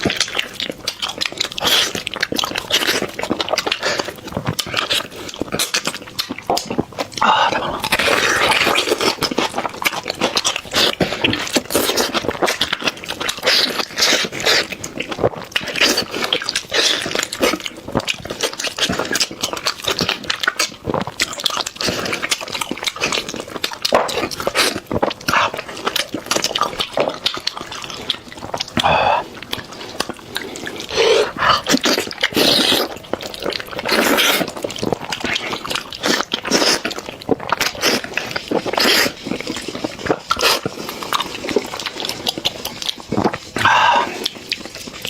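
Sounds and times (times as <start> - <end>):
person chewing and lip-smacking: 0.0 - 45.0.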